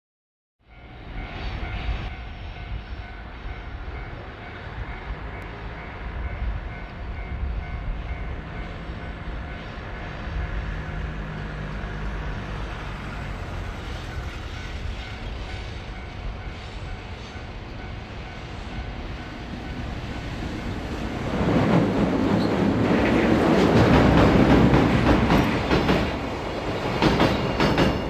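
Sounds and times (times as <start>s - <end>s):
freight train rumbling on rails: 0.7s - 28.0s.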